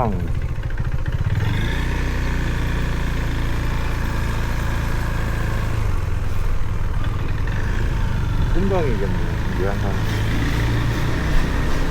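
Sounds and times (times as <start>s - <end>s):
motorcycle engine droning: 0.0s - 11.9s.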